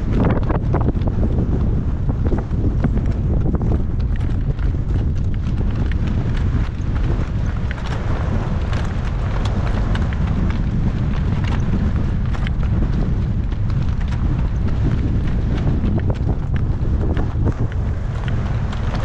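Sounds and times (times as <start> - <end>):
horse hoofbeats: 0.0 - 19.0
wind buffeting microphone: 0.0 - 19.0.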